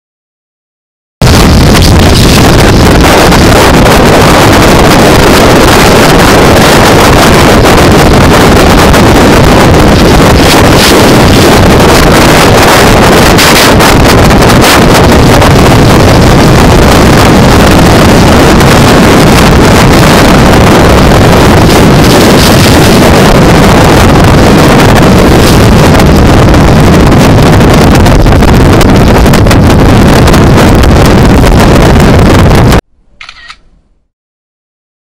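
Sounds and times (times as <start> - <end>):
wind buffeting microphone: 1.2 - 32.8.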